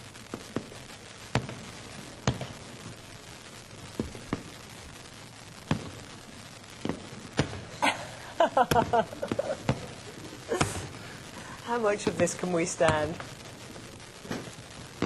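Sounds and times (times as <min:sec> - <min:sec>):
fireworks bangs: 0:00.0 - 0:15.0
steady background hiss: 0:00.0 - 0:15.0.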